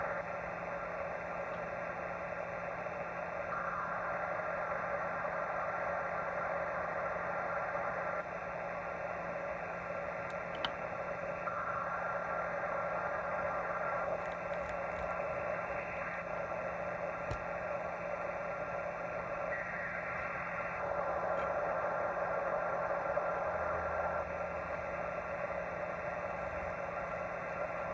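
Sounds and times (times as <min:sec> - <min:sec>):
faint steady radio tones: 0:00.0 - 0:27.9
low steady hum: 0:00.0 - 0:27.9
radio band hiss: 0:00.0 - 0:27.9.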